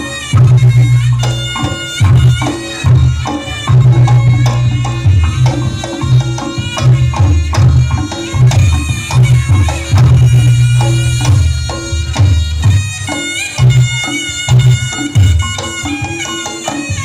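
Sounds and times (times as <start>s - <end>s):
loud pulsing drumming: 0.0s - 17.0s
shrill reed pipe melody: 0.0s - 17.0s.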